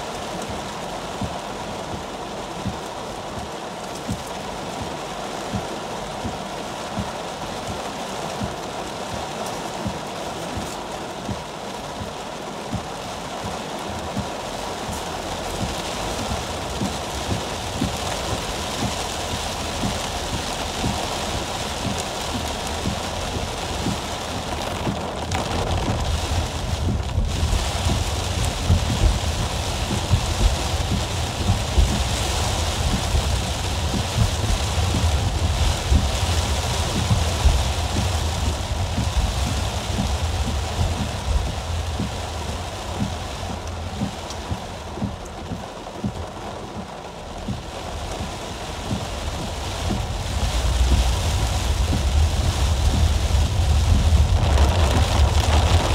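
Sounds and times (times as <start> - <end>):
rain on car roof: 0.0 - 55.9
car rumble: 0.1 - 55.9.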